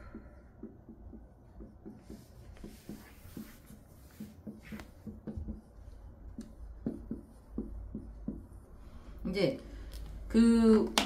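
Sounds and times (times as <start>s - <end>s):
marker writing on whiteboard: 0.0s - 9.5s.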